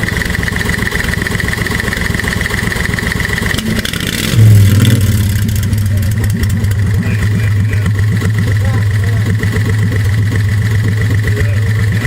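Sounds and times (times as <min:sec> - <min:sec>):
golf cart engine running: 0:00.0 - 0:12.0.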